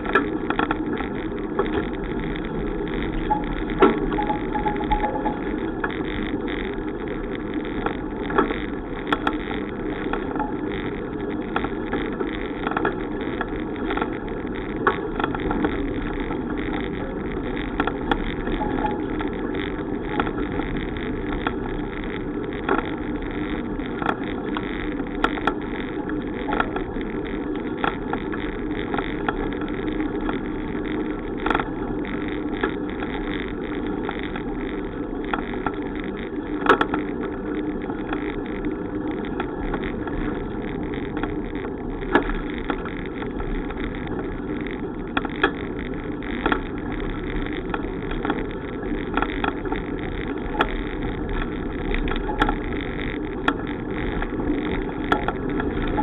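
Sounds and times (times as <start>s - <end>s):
bicycle road noise: 0.0s - 56.0s
sharp clicks and knocks: 0.0s - 56.0s.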